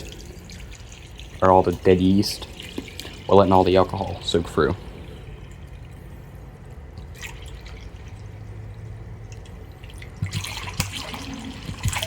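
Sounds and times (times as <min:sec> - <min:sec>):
liquid dripping into a pot: 0:00.0 - 0:12.0
liquid splashing: 0:00.0 - 0:12.0.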